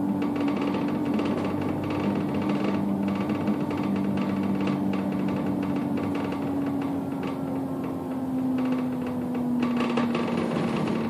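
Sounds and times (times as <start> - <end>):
bus engine hum: 0.0 - 11.0
fast continuous rattle: 0.0 - 11.0.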